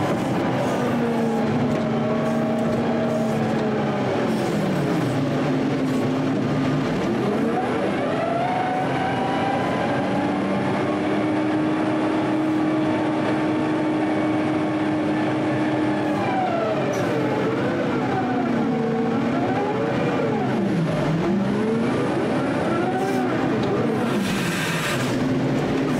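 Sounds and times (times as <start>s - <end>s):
heavy machine engine revving: 0.0s - 25.9s.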